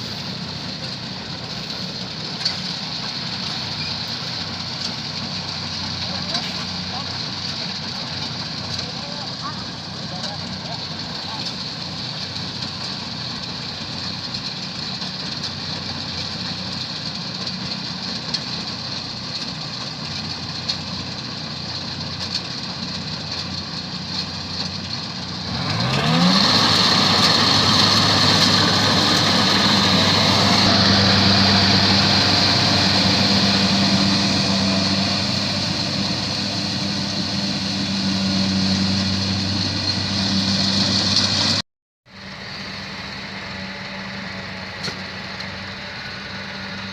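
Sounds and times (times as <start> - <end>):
combine harvester engine running: 0.0 - 46.9.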